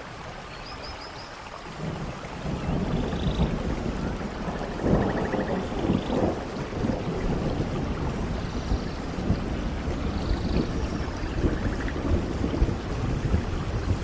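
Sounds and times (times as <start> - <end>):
heavy rain: 0.0 - 14.0
thunder rumbling: 1.8 - 14.0.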